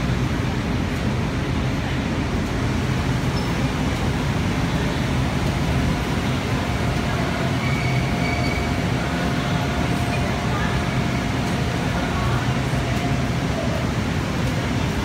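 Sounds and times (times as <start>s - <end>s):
light-rail train humming: 0.0s - 15.0s.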